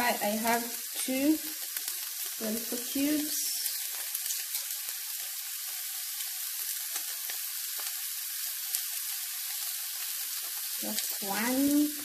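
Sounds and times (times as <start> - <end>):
vegetables sizzling in hot oil: 0.0 - 12.0
small crackles: 0.7 - 12.0.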